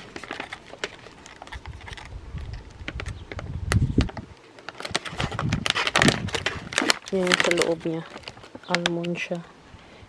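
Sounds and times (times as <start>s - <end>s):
foil snack pouch crinkling: 0.0s - 3.4s, 4.4s - 9.4s.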